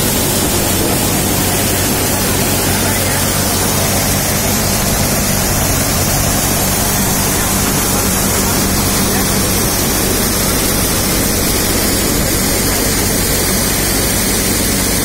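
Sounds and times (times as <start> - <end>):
low hum: 0.0 - 15.0
thresher drum and blower rushing: 0.0 - 15.0.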